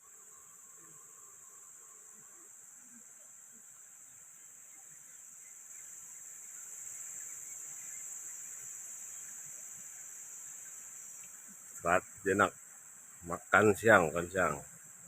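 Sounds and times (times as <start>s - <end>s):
insects chirping chorus: 0.0s - 15.0s.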